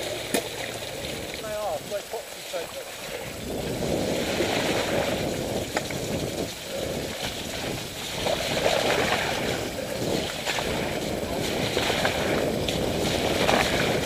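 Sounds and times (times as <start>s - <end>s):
bike tyres splashing through water: 0.0s - 14.0s.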